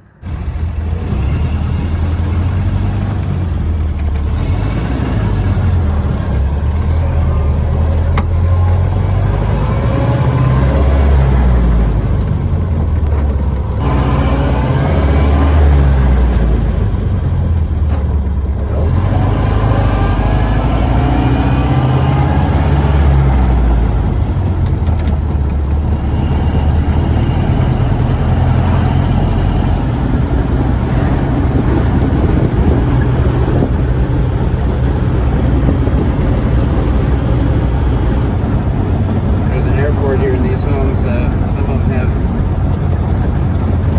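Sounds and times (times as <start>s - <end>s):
road and wind noise: 0.0s - 43.9s
truck engine running: 0.0s - 43.9s.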